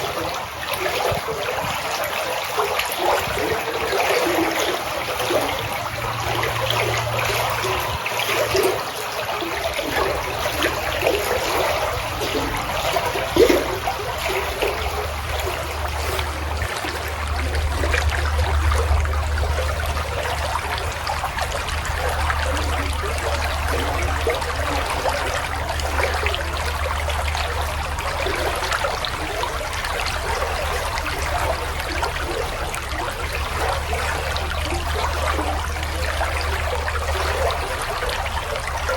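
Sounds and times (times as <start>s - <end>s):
low steady hum: 0.0s - 38.9s
water trickling and splashing: 0.0s - 38.9s.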